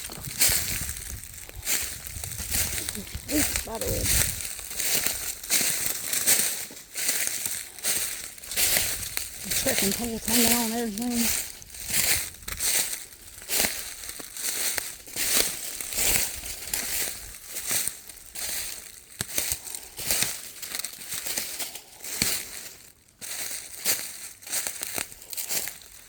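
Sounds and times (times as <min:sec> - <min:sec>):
footsteps crunching dry leaves: 0:00.0 - 0:26.0.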